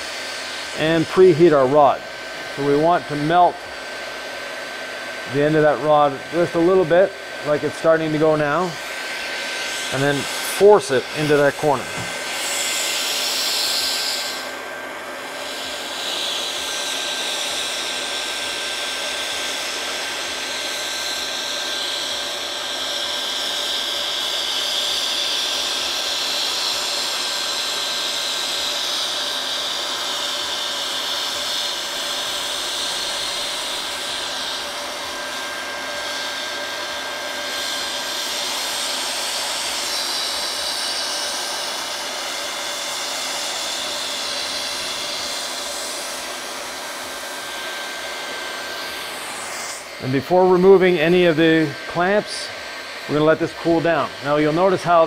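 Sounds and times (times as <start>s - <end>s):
hot air gun hissing: 0.0s - 55.0s.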